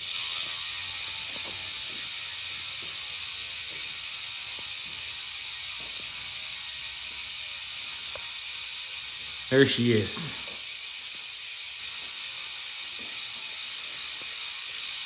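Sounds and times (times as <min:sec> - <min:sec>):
bicycle hub freewheeling buzz: 0:00.0 - 0:09.5, 0:10.4 - 0:15.0.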